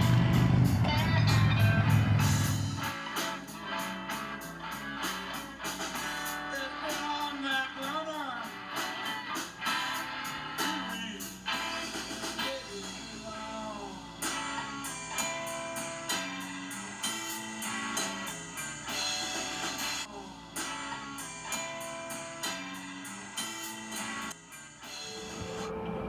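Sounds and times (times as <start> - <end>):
steady drum beat: 0.0 - 24.4
guitar: 0.0 - 26.0.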